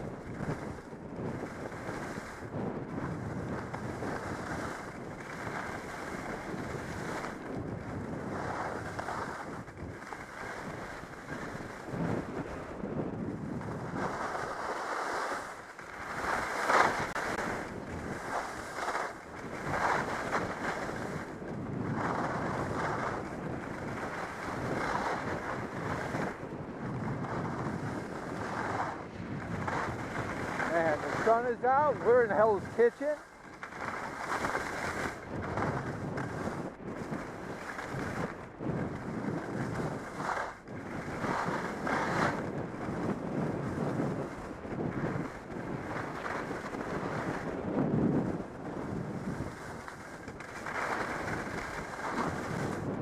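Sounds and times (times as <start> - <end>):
skis scraping over snow: 0.0 - 53.0
wind buffeting microphone: 0.0 - 53.0.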